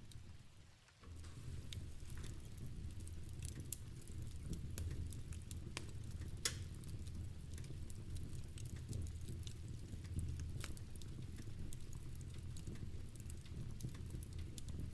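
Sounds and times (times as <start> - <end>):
log fire crackling: 0.0 - 14.9
rain pattering: 0.0 - 14.9.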